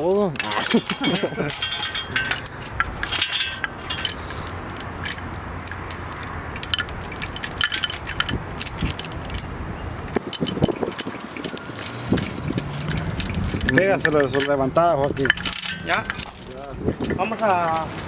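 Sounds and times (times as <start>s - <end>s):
metal chain clinking: 0.0s - 9.5s, 10.3s - 18.0s.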